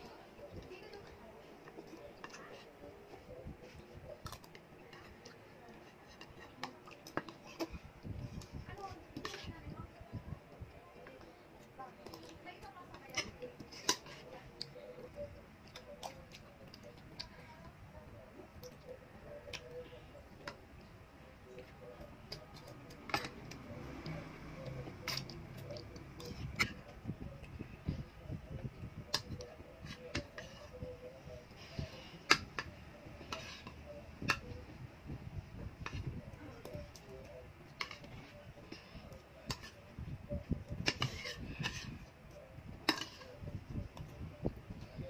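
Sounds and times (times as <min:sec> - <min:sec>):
soft eating sounds: 0:00.0 - 0:45.0.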